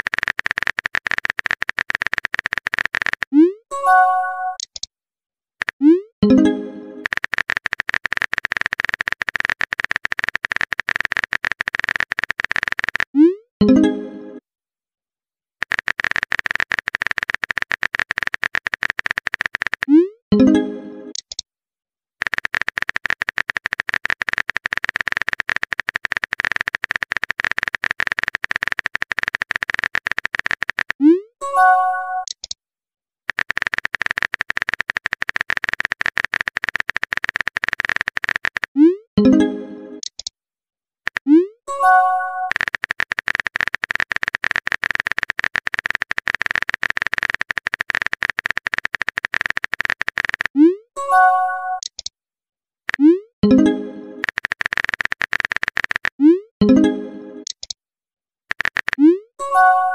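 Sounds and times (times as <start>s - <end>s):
keyboard typing clicks: 0.0s - 4.9s, 5.6s - 14.4s, 15.6s - 21.4s, 22.2s - 31.0s, 32.0s - 32.6s, 33.3s - 40.3s, 41.1s - 50.8s, 51.5s - 52.1s, 52.9s - 57.8s, 58.5s - 59.9s.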